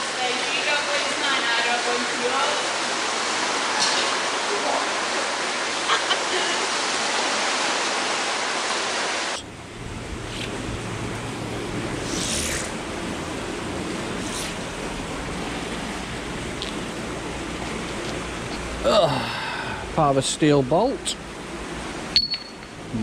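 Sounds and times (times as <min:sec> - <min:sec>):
rushing water hiss: 0:00.0 - 0:23.0.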